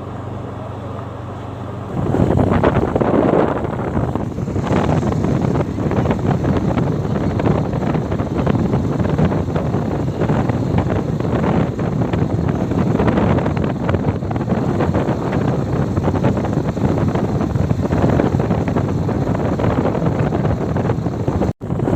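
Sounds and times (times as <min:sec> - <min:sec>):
low riding rumble: 0:00.0 - 0:21.9
wind buffeting microphone: 0:01.7 - 0:21.9.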